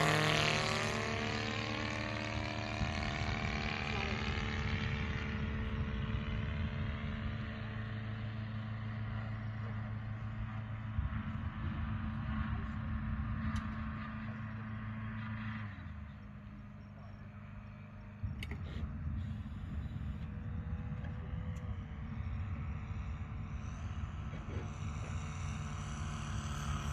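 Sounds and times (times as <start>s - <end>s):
model aircraft engine running: 0.0s - 26.9s.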